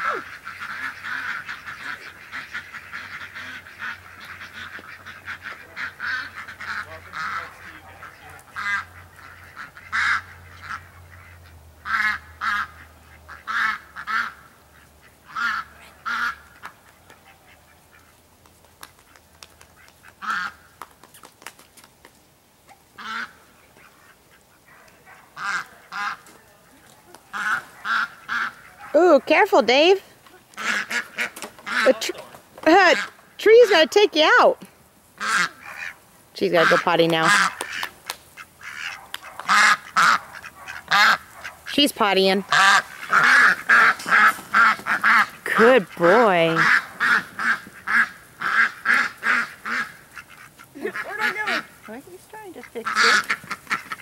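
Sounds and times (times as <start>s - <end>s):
ducks quacking: 0.0s - 18.3s, 18.9s - 20.8s, 22.7s - 54.0s.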